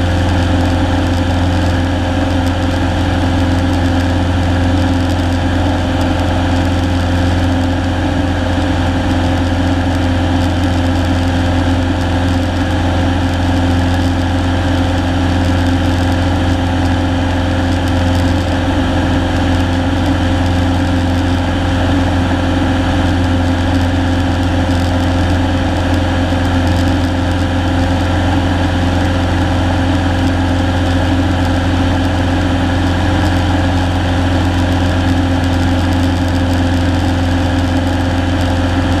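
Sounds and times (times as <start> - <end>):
plane engine humming in cabin: 0.0 - 39.0.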